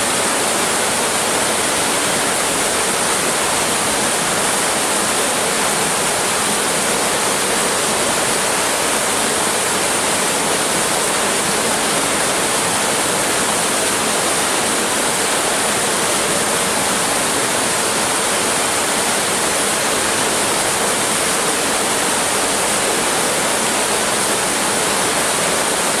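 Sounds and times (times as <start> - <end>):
pool waterfall pouring: 0.0 - 26.0.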